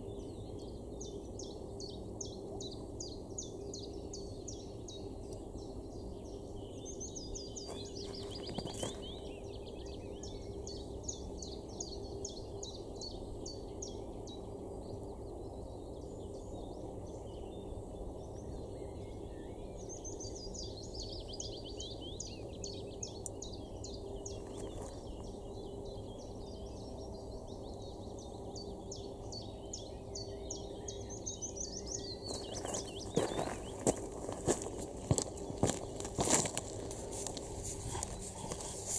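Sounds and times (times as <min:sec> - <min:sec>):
songbirds chattering: 0:00.0 - 0:38.9.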